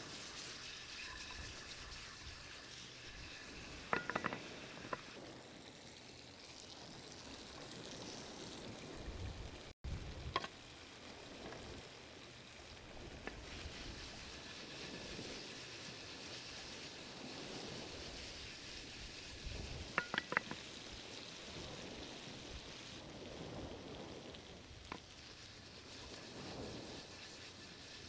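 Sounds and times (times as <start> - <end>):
fish sizzling over campfire: 0.0 - 28.0.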